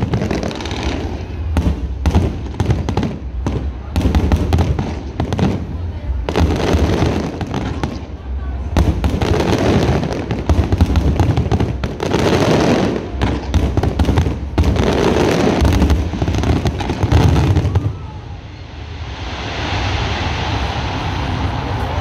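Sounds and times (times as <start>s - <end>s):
fireworks booming and cracking: 0.0s - 22.0s.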